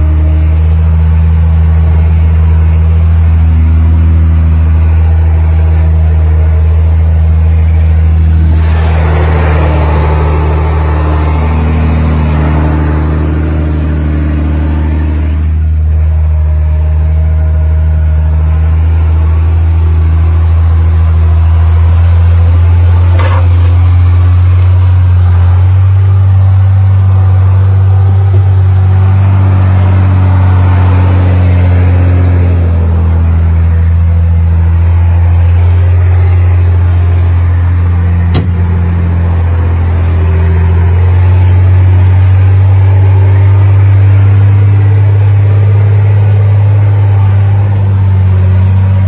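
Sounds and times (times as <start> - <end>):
diesel engine drone: 0.0 - 49.0.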